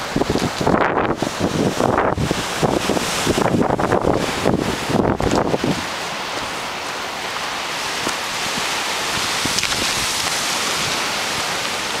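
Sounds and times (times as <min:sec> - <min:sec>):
waves on a rocky shore: 0:00.0 - 0:12.0
wind: 0:00.0 - 0:12.0.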